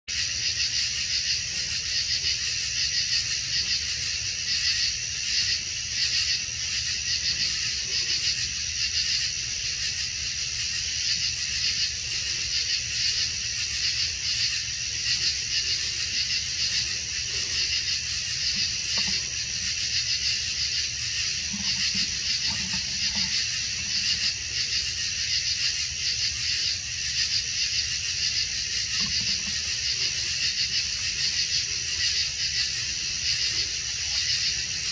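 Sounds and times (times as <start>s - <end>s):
night insects chirring: 0.1s - 34.9s.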